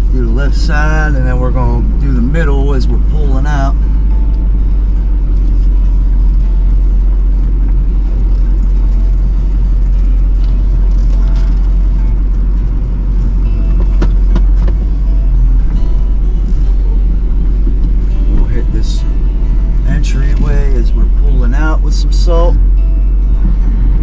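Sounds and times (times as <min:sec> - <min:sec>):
diesel truck engine rumble: 0:00.0 - 0:24.0.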